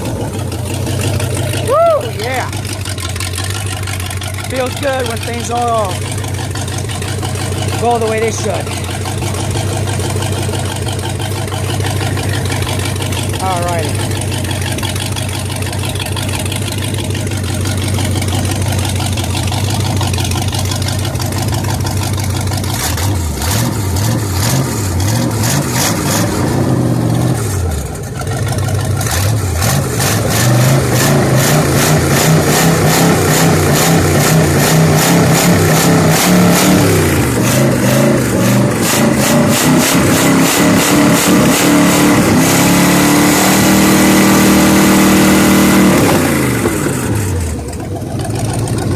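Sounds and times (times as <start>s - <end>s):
boat engine revving: 0.0s - 48.9s.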